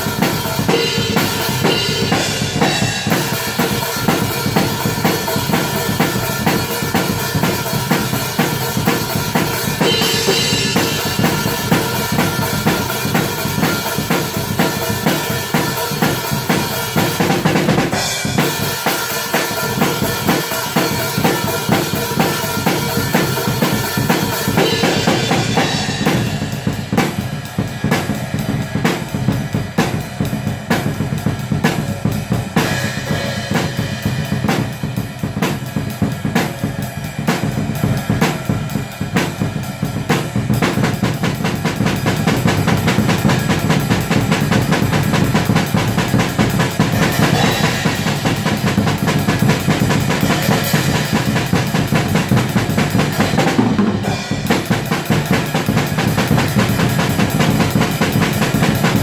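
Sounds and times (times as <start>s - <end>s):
black metal music: 0.0s - 35.9s, 41.6s - 59.0s
fast dense drumming: 0.0s - 59.0s.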